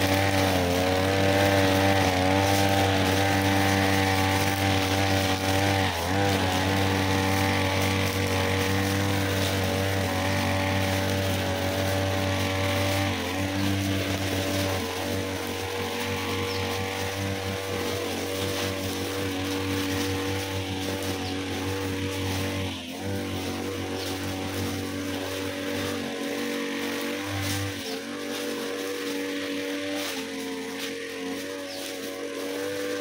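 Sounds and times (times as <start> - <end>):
brush cutter engine running: 0.0 - 33.0
trimmer line sweeping debris: 0.0 - 33.0.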